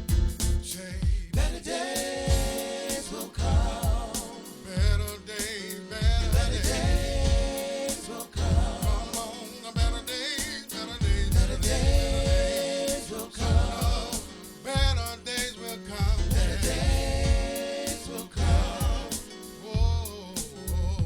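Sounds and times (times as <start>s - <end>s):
gospel song played by a band: 0.0s - 21.0s.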